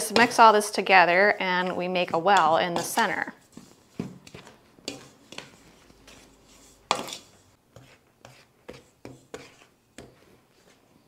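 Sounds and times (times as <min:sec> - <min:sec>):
wooden spoon scraping a steel bowl: 0:00.0 - 0:11.0.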